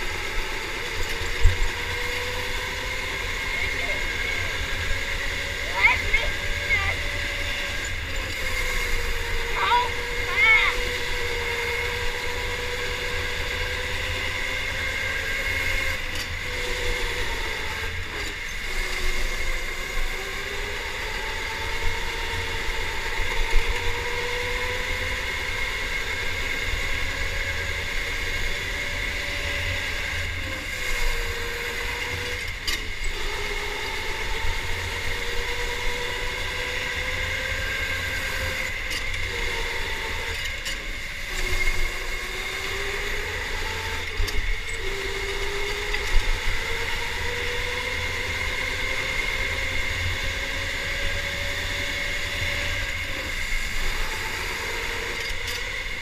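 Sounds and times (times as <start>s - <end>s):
electric go-kart motor whining: 0.0s - 56.0s.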